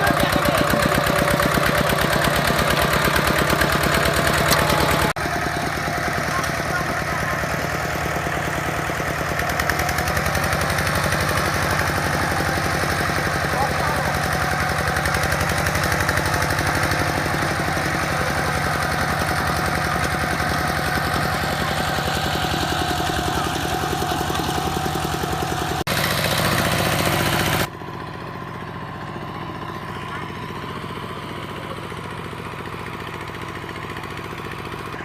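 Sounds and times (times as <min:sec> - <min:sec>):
harvesting machine engine running: 0:00.0 - 0:35.0.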